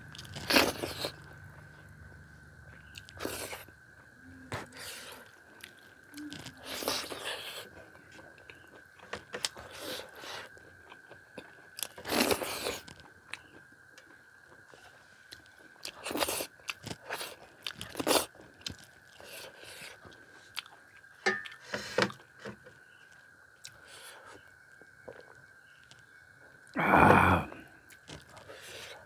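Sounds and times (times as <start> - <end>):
chewing rice: 0.0 - 26.8, 27.8 - 29.0.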